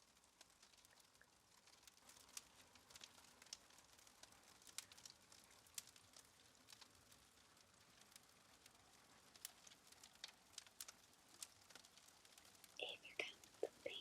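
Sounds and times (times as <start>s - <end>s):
wood fire pops and snaps: 0.0s - 13.8s
soft fire hiss: 0.0s - 14.0s.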